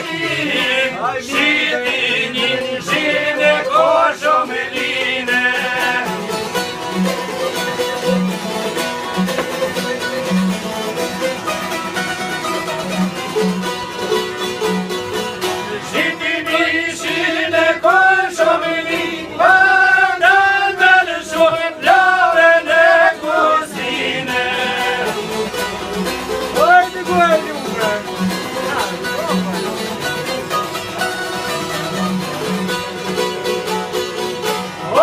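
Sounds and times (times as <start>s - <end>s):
plucked string instrument: 0.0s - 35.0s.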